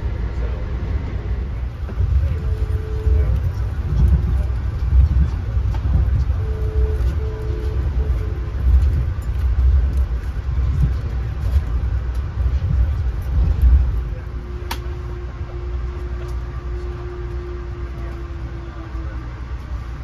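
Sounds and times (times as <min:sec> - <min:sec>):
train rumble inside coach: 0:00.0 - 0:20.0.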